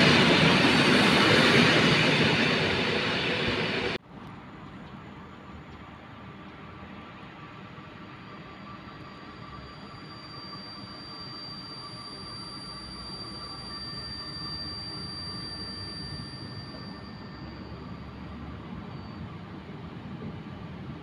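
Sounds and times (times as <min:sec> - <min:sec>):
steady high tones: 0:00.0 - 0:04.0, 0:06.8 - 0:20.2
train rumbling: 0:00.0 - 0:12.2, 0:13.1 - 0:21.0.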